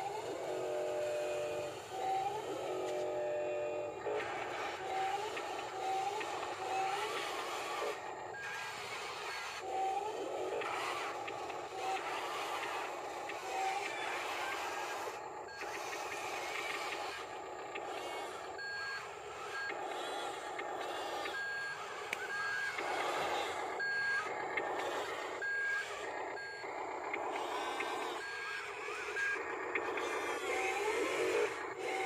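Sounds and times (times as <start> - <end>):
electronic reversing beeps: 0.0 - 32.0
toy electric motor whirring: 0.0 - 32.0.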